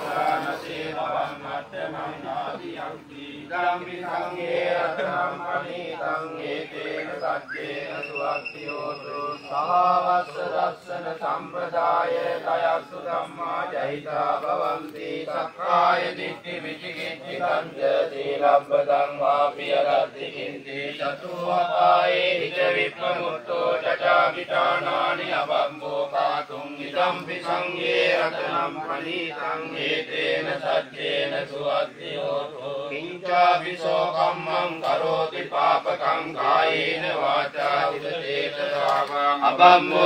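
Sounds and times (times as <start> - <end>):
men chanting together: 0.0 - 40.0.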